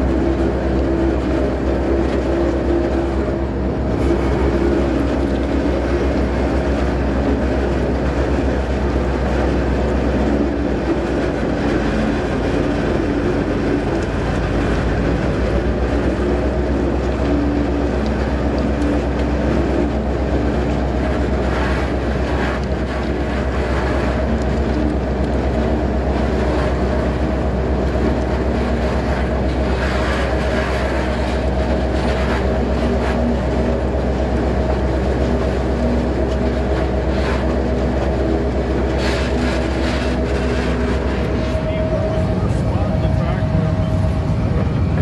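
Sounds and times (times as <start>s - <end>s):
locomotive engine rumble: 0.0s - 45.0s.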